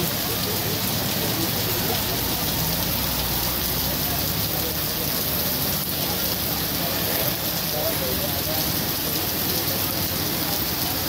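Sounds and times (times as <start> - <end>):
heavy rain on street: 0.0 - 11.0.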